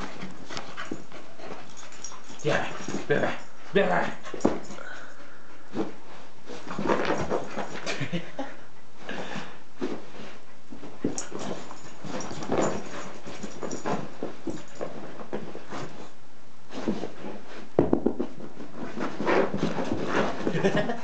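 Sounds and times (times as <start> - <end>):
dog play noises: 0.0 - 21.0.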